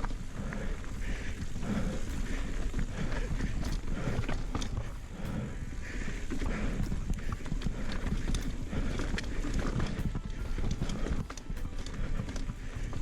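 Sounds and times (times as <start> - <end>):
bike knocking and rattling: 0.0 - 13.0
bike tyres rumbling over rock: 0.0 - 13.0.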